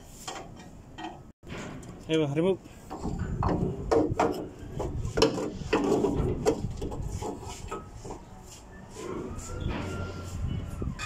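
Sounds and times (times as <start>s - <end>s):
knocks and scrapes on exhaust parts: 0.0s - 11.0s.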